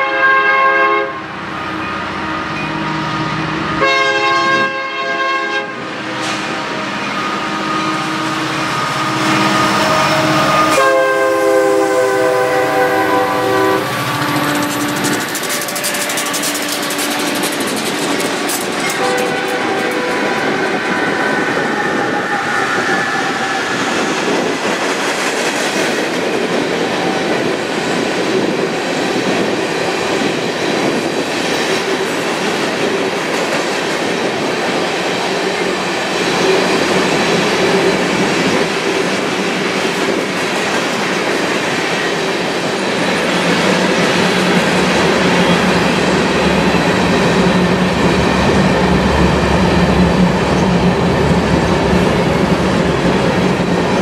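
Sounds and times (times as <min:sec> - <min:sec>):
locomotive whine: 0:00.1 - 0:28.6, 0:34.4 - 0:54.0
train wheels clacking on rails: 0:07.9 - 0:54.0.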